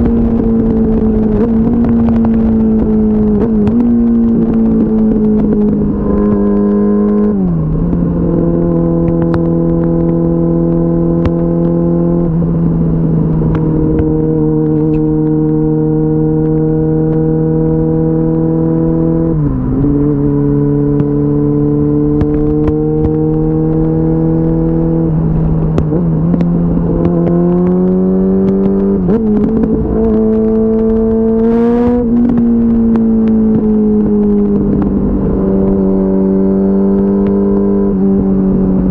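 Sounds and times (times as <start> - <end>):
motorcycle engine at speed: 0.0 - 38.9
wind noise: 0.0 - 38.9.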